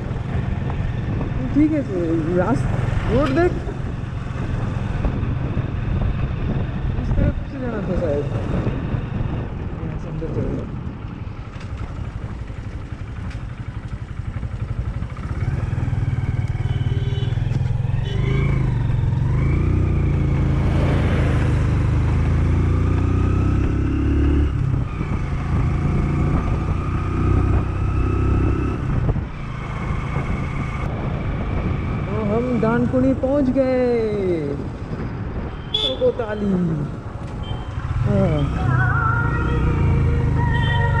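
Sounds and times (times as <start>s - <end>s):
motorcycle engine running: 0.0s - 33.4s, 36.8s - 41.0s.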